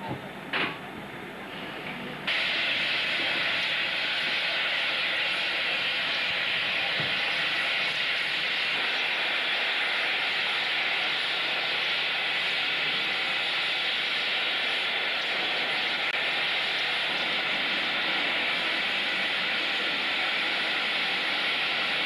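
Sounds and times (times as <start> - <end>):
steady hiss: 2.2 - 22.0.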